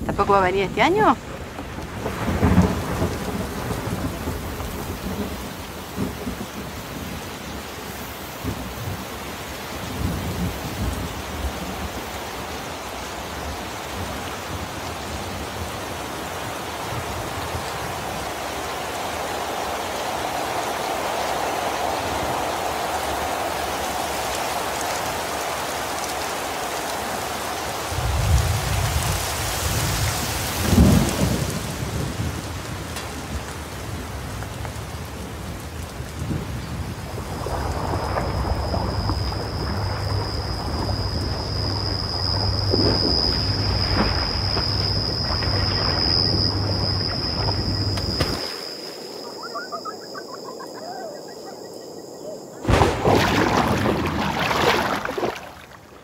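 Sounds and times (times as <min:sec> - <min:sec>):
thunder rumbling: 0:00.0 - 0:25.4, 0:27.8 - 0:48.4, 0:49.0 - 0:56.0
rain falling on water: 0:00.0 - 0:56.0.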